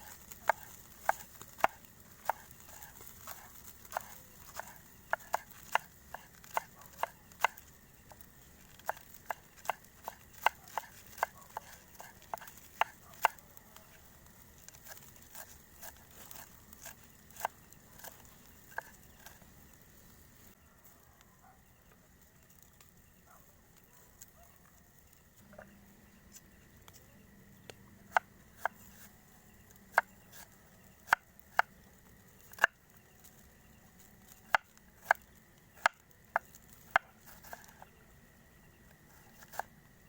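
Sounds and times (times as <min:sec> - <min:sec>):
campfire wood crackling: 0:00.0 - 0:40.0.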